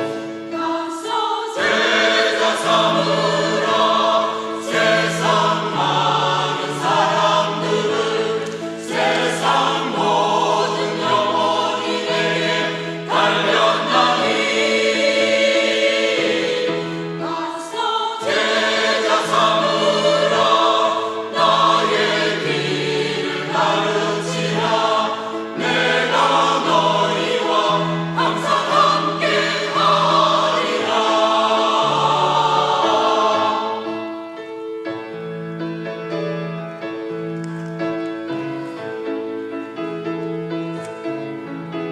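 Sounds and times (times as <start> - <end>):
choir singing: 0.0 - 34.3.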